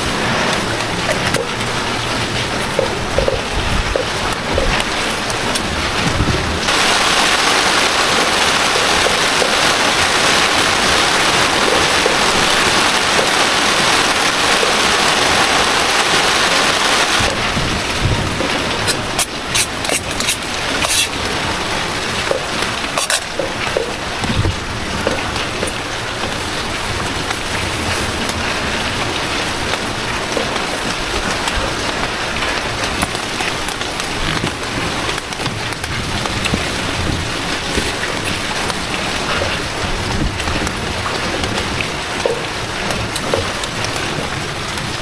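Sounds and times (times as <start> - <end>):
heavy rain falling: 0.0 - 19.9, 20.5 - 45.0.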